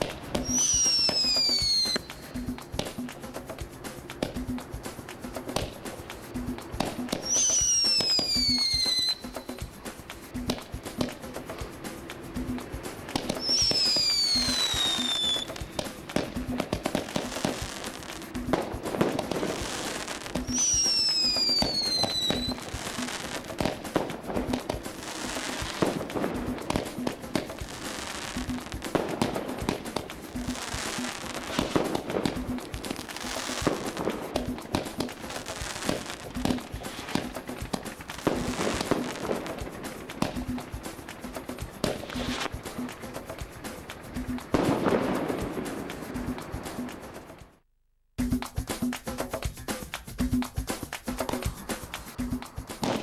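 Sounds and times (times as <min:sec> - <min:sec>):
firework whistles falling in pitch: 0:00.0 - 0:03.1, 0:05.5 - 0:47.3, 0:51.2 - 0:53.0
firework bangs and crackle: 0:00.0 - 0:47.6, 0:50.9 - 0:53.0
background music with steady beat: 0:00.0 - 0:53.0.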